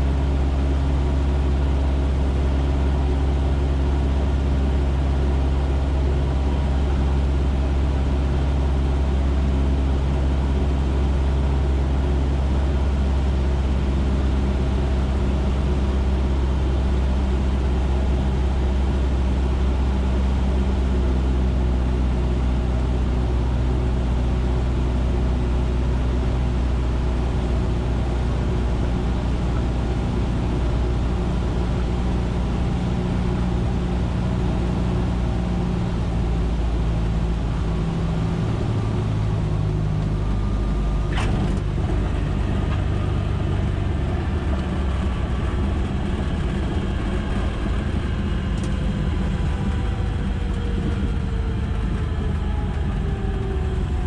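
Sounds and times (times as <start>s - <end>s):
small plane engine droning: 0.0s - 54.0s.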